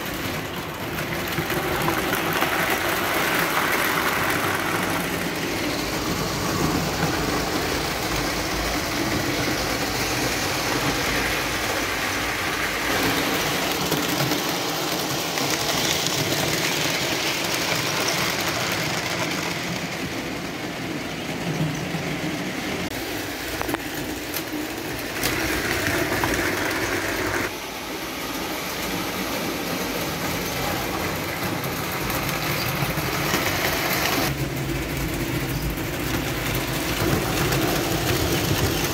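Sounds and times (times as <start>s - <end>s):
model trains rumbling on track: 0.0s - 38.9s.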